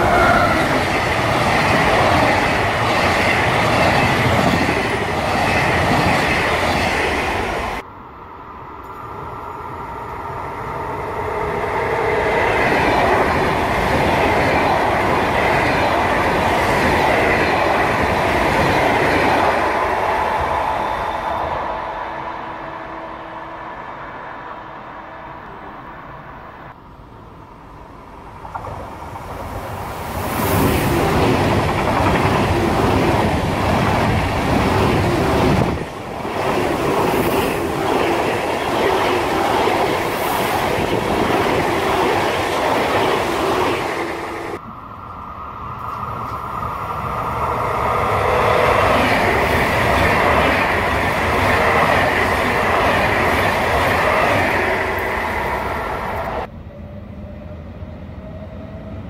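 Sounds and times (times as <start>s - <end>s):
high-speed train passing: 0.0s - 59.0s
loud train passing: 0.0s - 59.0s.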